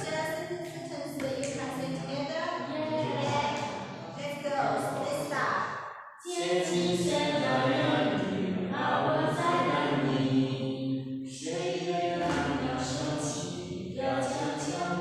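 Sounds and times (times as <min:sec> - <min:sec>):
group singing unaccompanied: 0:01.6 - 0:15.0.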